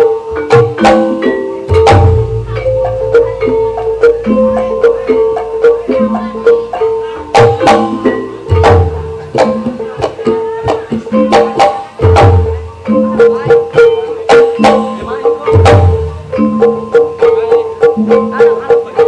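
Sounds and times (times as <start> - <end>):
gamelan metallophones: 0.0 - 19.0
hand drum strokes: 0.0 - 19.0
deep drum beat: 0.2 - 19.0.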